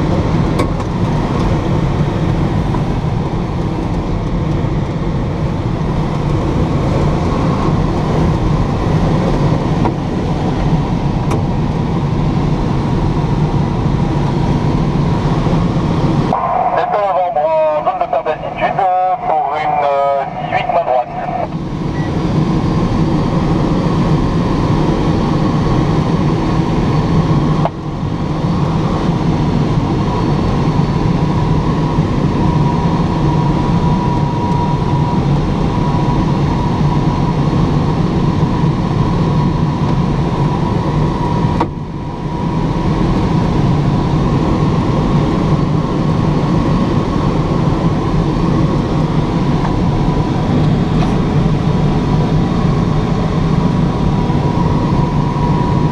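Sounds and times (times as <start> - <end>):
airflow rushing around cockpit: 0.0 - 55.9.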